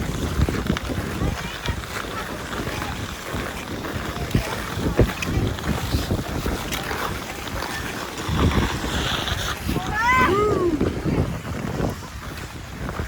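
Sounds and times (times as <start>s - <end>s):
ice skates scraping on ice: 0.0s - 13.0s
skate blade clicks: 0.0s - 13.0s
wind buffeting microphone: 0.0s - 13.0s.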